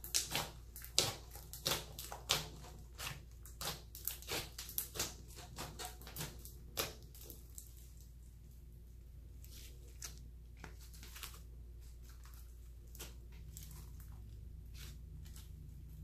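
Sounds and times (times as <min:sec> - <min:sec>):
slime squishing with sticky crackles: 0:00.0 - 0:16.0.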